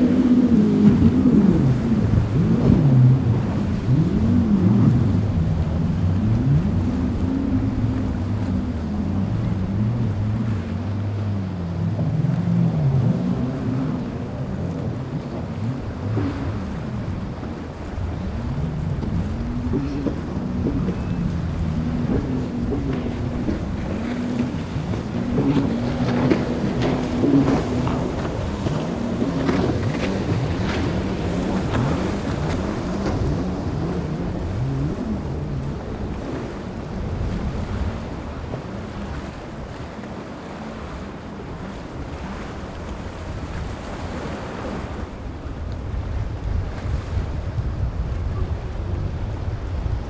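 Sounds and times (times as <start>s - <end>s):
powerboat engines running hard: 0.0s - 50.0s
surf washing: 0.0s - 50.0s
wind buffeting microphone: 0.0s - 50.0s.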